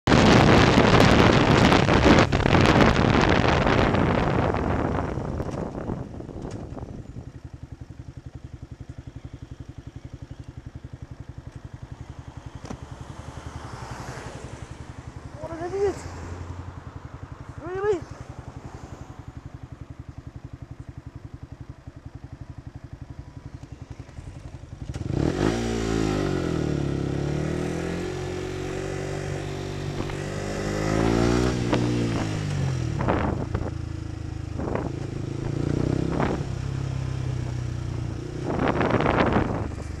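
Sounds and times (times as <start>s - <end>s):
motorcycle engine: 0.0s - 40.0s.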